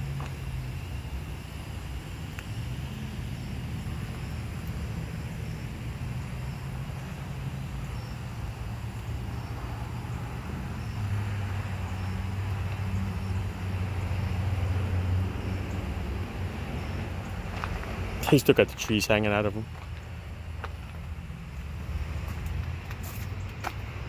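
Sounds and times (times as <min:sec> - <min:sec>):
road noise: 0:00.0 - 0:24.0
vehicle engine humming: 0:00.0 - 0:24.0.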